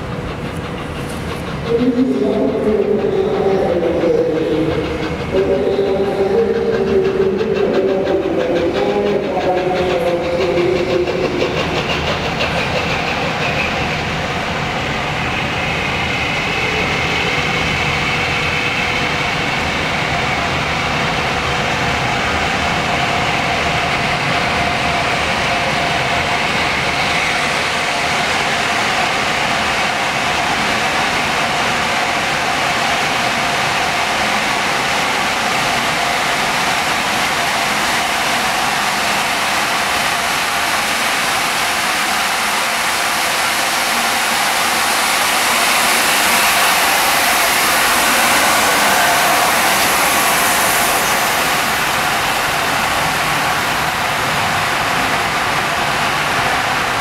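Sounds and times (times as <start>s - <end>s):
train hiss: 0.0s - 57.0s
train running mechanical noise: 0.0s - 57.0s.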